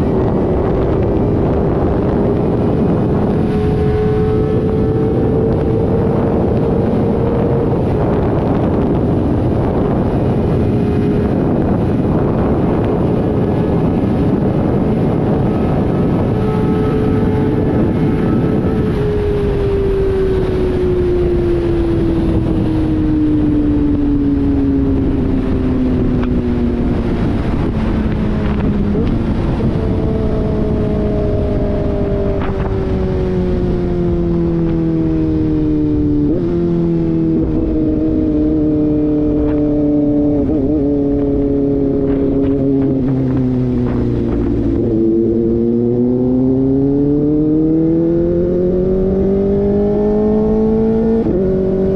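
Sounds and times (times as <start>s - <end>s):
motorcycle engine at high revs: 0.0s - 51.9s
wind rushing over microphone: 0.0s - 51.9s.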